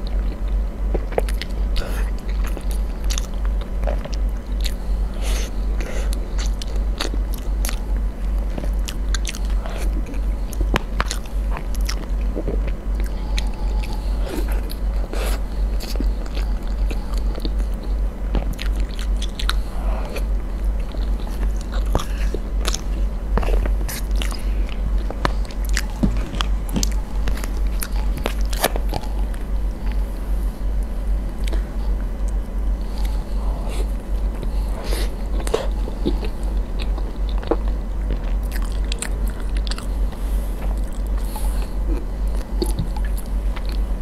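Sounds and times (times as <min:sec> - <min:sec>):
steady low hum: 0:00.0 - 0:44.0
wet chewing and smacking: 0:00.0 - 0:44.0.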